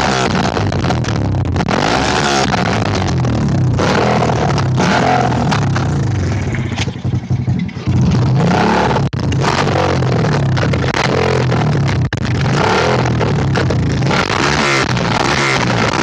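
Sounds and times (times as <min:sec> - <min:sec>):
dirt bike engine running loud: 0:00.0 - 0:16.0.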